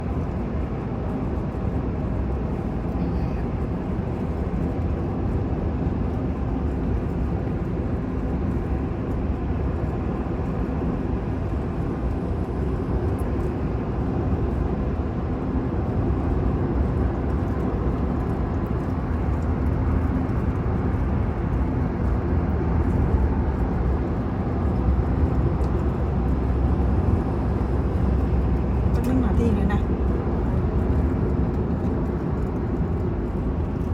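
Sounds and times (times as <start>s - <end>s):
vehicle engine rumble: 0.0s - 33.9s.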